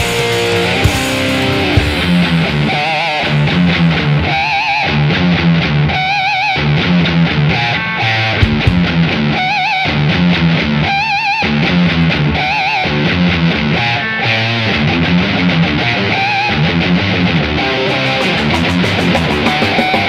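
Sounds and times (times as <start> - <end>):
distorted electric guitar metal riff: 0.0 - 20.0.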